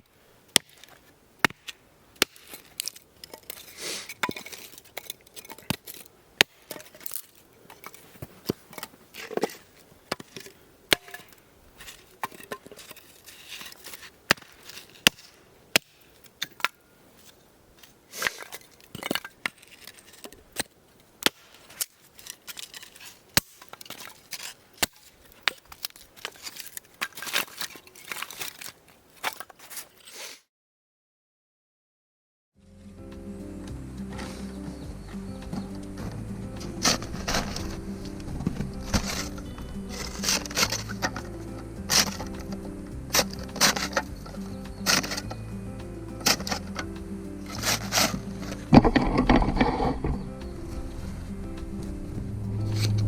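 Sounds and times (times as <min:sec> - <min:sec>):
crunching and rustling: 0:00.0 - 0:30.4, 0:34.1 - 0:53.0.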